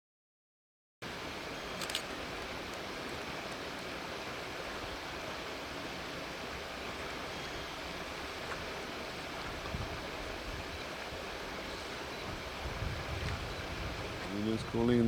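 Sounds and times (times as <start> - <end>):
outdoor background hiss: 1.0 - 15.0.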